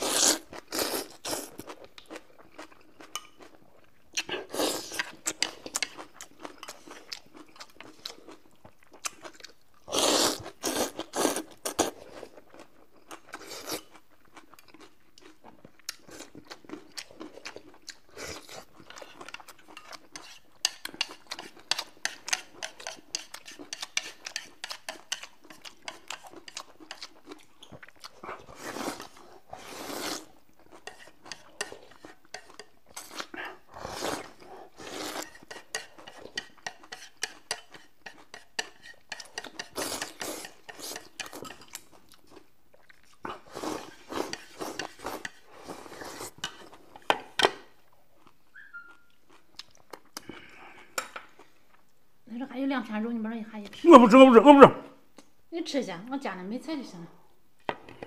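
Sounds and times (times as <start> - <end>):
chewing: 0.0 - 51.9.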